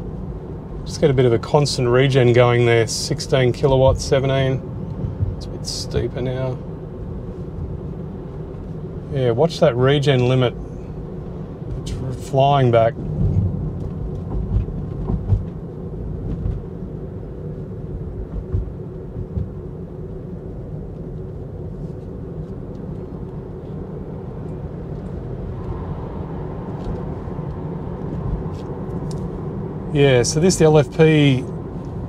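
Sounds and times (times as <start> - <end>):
road and tyre rumble in car: 0.0 - 32.0.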